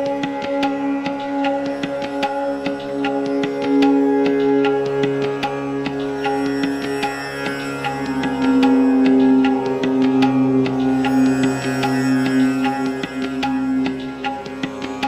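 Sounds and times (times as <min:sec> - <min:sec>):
hand drum strokes: 0:00.0 - 0:15.0
plucked string notes: 0:00.0 - 0:15.0
sustained drone: 0:00.0 - 0:15.0.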